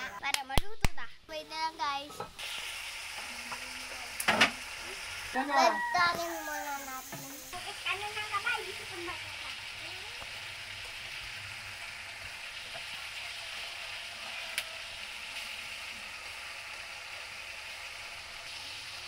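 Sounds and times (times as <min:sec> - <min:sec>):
meat sizzling in a wok: 0:00.0 - 0:00.2, 0:01.6 - 0:19.0.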